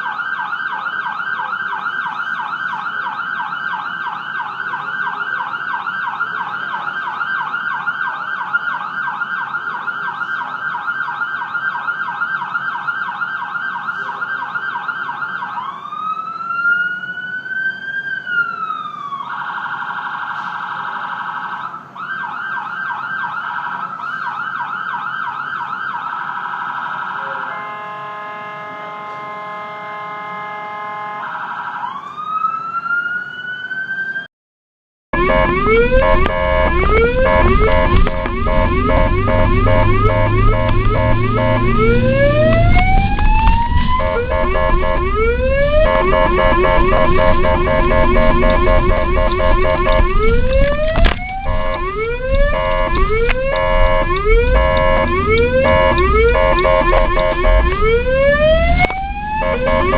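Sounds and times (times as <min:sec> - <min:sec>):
ambulance siren: 0:00.0 - 0:34.3, 0:35.2 - 0:59.9.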